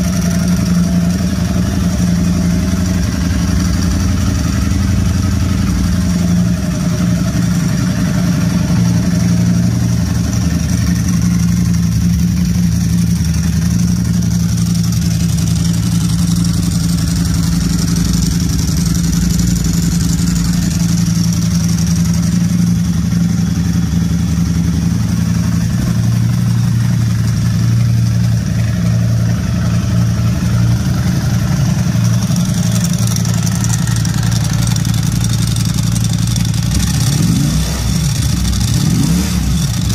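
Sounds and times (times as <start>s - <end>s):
dry clutch rattling: 0.0s - 39.9s
motorcycle engine idling: 0.0s - 39.9s.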